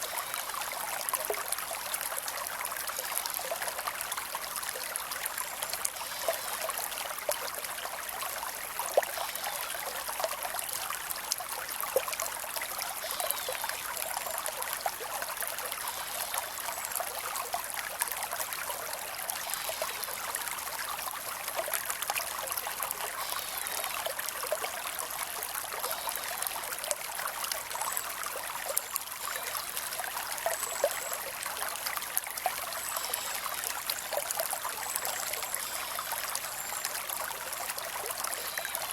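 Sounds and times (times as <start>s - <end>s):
creek trickling and babbling: 0.0s - 38.9s.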